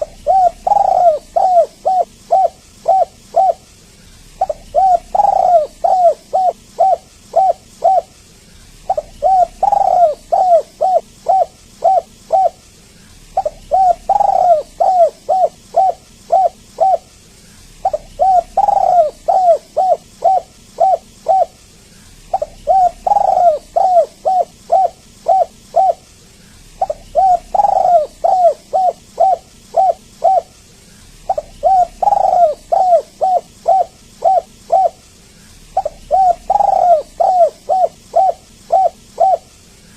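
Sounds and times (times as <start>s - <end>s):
dove cooing: 0.0s - 12.6s, 13.2s - 17.1s, 17.7s - 26.1s, 26.7s - 30.6s, 31.2s - 39.9s.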